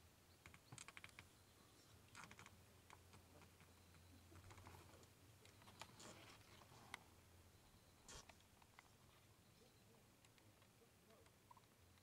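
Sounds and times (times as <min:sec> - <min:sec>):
faint low steady hum: 0:00.0 - 0:12.0
faint scattered clicks: 0:00.4 - 0:07.1, 0:08.0 - 0:12.0.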